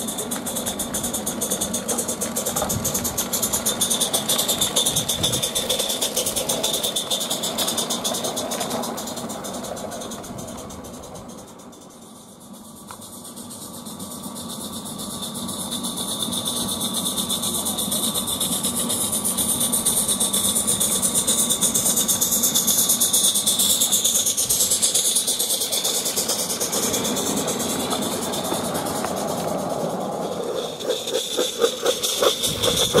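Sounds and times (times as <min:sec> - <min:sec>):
steam hissing: 0:00.0 - 0:33.0
steam locomotive chuffing: 0:00.0 - 0:33.0.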